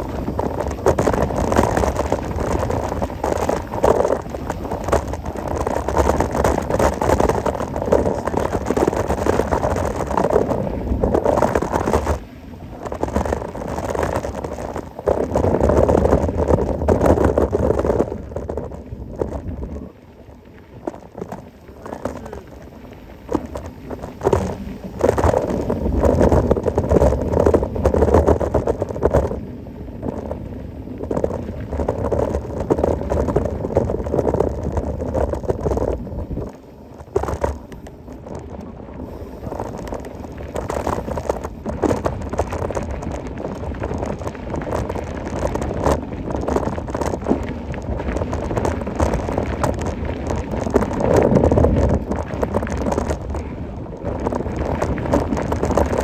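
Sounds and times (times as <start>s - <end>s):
bike rattling over bumps: 0.0s - 56.0s.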